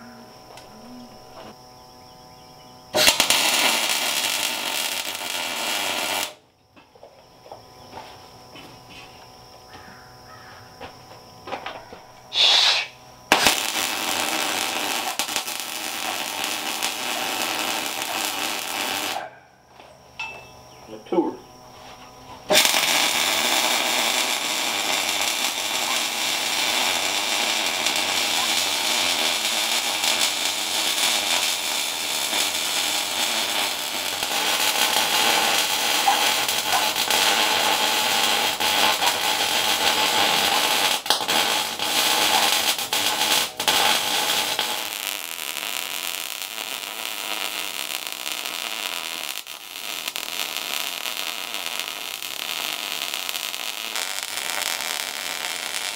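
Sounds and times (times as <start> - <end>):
arc welding hiss: 2.8 - 6.4, 12.2 - 19.2, 21.1 - 55.9.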